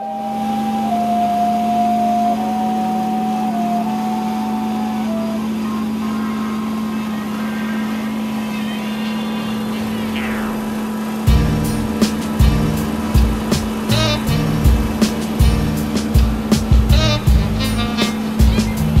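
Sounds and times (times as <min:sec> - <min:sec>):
background music: 0:00.0 - 0:19.0
tractor mowing: 0:00.0 - 0:19.0.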